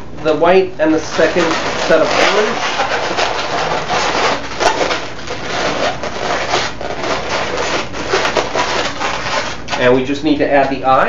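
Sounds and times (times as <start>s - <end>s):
balloons rubbing together: 0.3s - 10.2s.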